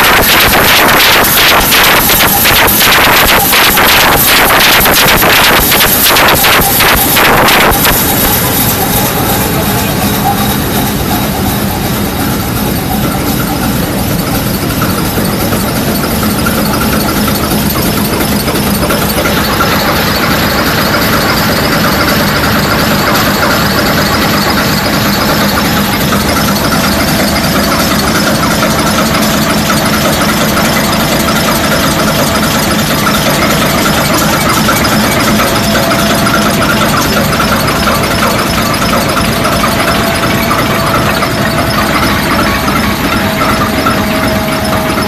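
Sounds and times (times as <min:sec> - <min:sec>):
large diesel engine running: 0:00.0 - 0:45.0.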